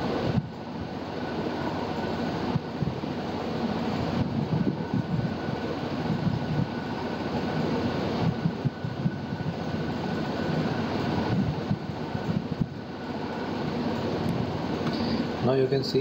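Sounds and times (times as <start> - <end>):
faint high whine: 0.0 - 16.0
steady rushing noise: 0.0 - 16.0.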